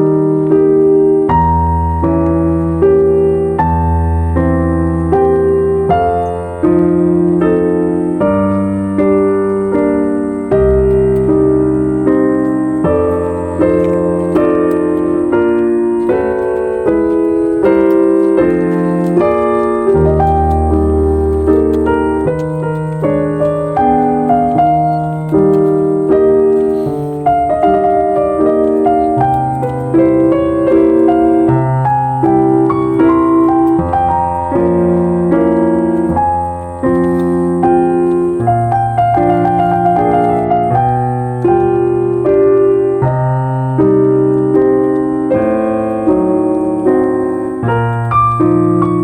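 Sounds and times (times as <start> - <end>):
slow gentle piano music: 0.0 - 49.0.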